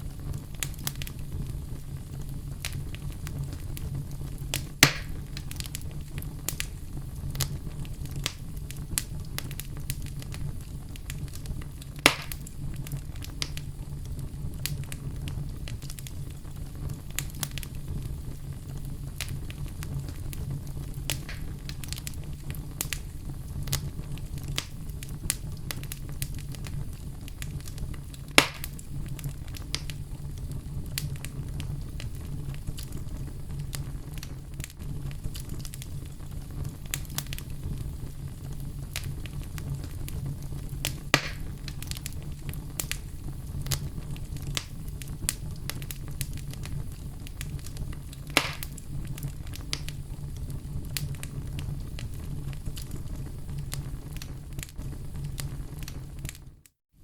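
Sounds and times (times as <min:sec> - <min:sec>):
fire low rumble: 0:00.0 - 0:56.7
loud fire pops: 0:00.0 - 0:56.7
fire crackling snaps: 0:00.0 - 0:57.0.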